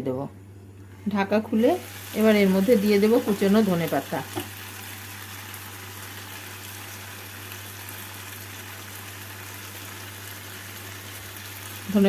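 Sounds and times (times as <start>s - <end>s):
food sizzling in a pan: 1.5s - 12.0s.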